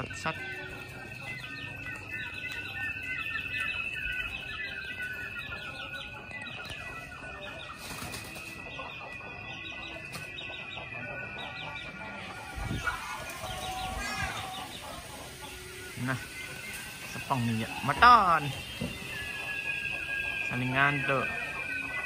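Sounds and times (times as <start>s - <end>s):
birds chirping: 0.0s - 22.0s
steady high-pitched tone: 0.0s - 22.0s.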